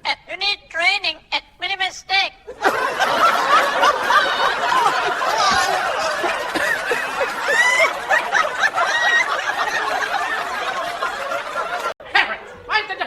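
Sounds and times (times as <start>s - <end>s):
people laughing and snickering: 2.4s - 13.0s.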